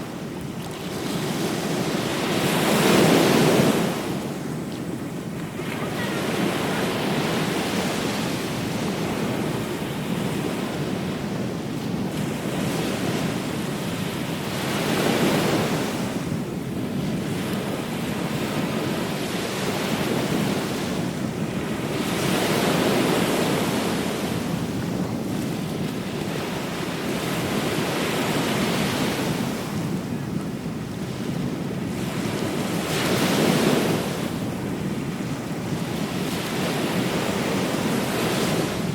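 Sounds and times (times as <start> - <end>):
waves breaking on shore: 0.0 - 38.9
wind on microphone: 0.0 - 38.9.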